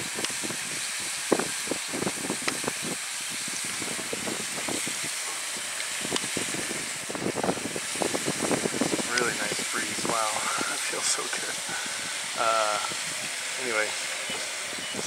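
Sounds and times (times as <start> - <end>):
wind hissing across microphone: 0.0 - 15.0.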